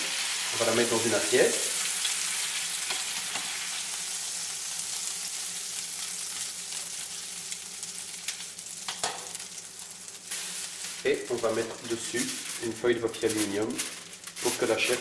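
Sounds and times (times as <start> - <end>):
steak sizzling in a pan: 0.0 - 12.7.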